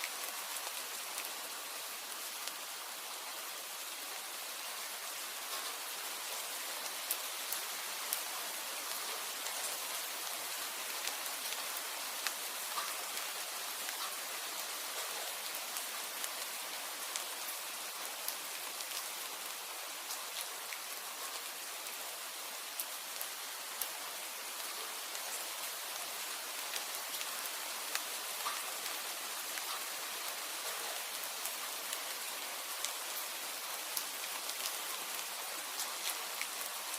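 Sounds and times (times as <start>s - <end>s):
sharp ticks of rain: 0.0s - 36.9s
steady rainfall hiss: 0.0s - 36.9s.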